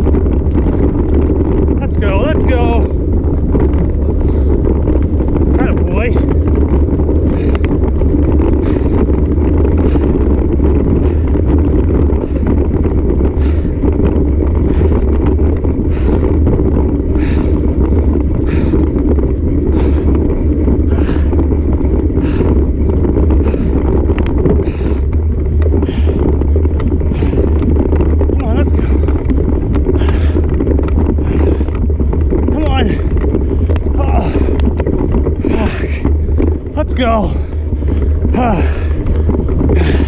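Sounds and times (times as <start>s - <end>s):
bicycle rolling over dirt trail: 0.0s - 40.0s
wind on microphone: 0.0s - 40.0s.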